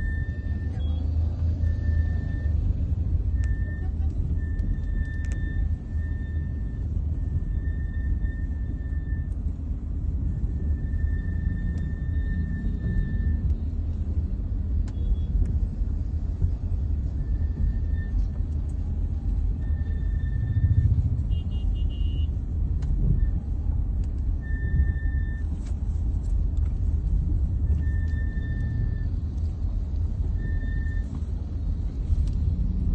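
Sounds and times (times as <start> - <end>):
brakes whining: 0.0 - 32.9
low road rumble: 0.0 - 32.9.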